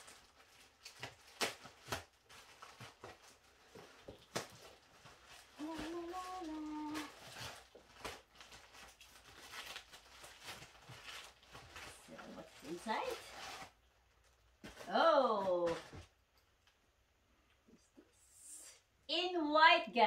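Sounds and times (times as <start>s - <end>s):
packaging rustling and crinkling: 0.0s - 16.8s.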